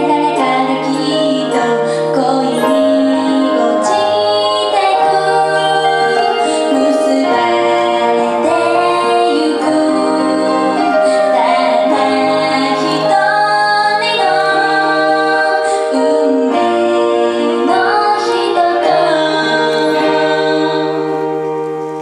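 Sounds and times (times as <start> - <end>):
girl singing into a microphone: 0.0 - 21.5
instrumental accompaniment: 0.0 - 22.0.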